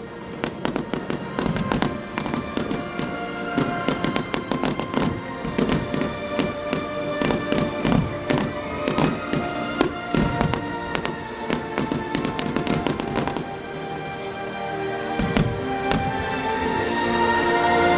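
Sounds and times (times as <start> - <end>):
music with long held notes: 0.0 - 17.9
fireworks bangs and crackles: 0.2 - 13.7, 15.1 - 16.8.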